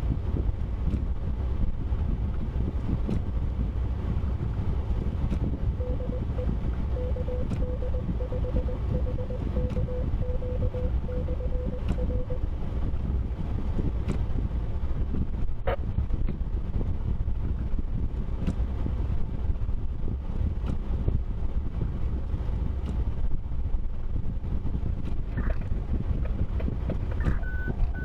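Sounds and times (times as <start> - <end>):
moving vehicle rumble: 0.0 - 28.0
wind noise: 0.0 - 28.0.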